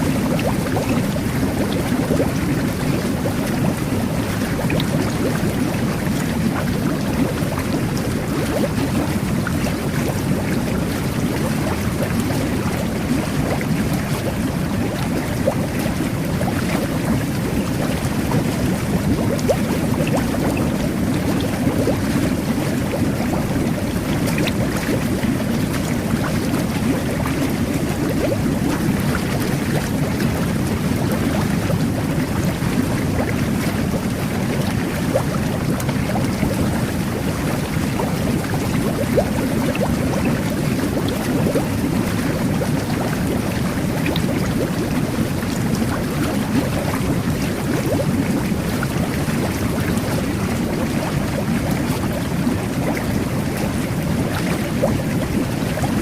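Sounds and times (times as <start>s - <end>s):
jet bath water bubbling: 0.0s - 56.0s
small water splashes: 0.0s - 56.0s.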